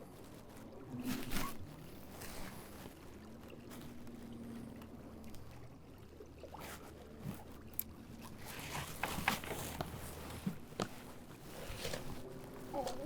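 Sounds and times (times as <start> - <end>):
paddle strokes in water: 0.0 - 13.0.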